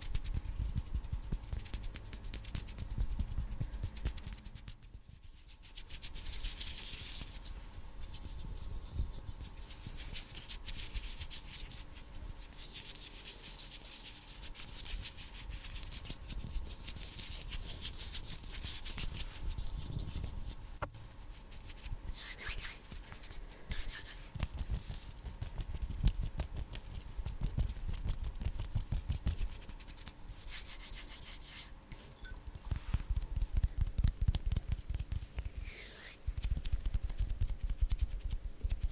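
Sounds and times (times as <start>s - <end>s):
hands rubbing together: 0.0s - 38.9s.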